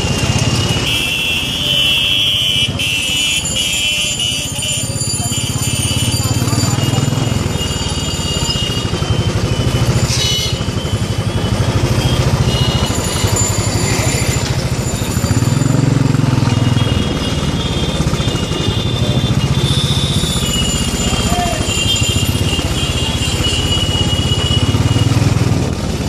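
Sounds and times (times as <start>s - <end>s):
horns honking: 0.0s - 14.6s, 16.0s - 25.5s
motorbike engine running: 0.0s - 26.0s.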